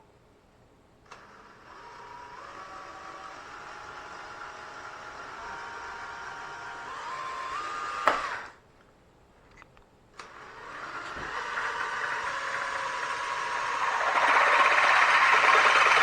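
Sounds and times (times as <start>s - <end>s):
drill motor whine: 1.1s - 8.6s, 10.3s - 16.0s.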